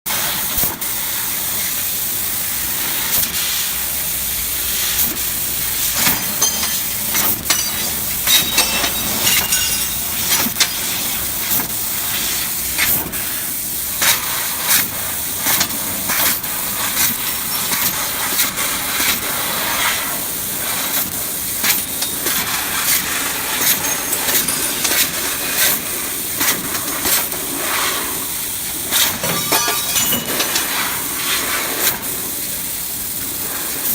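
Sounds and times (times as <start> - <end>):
laser cutter high hiss: 0.1 - 33.9.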